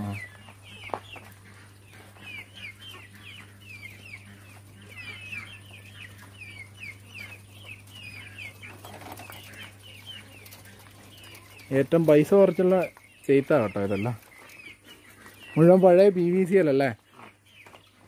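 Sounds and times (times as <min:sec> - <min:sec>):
quails chirping: 0:00.0 - 0:18.0.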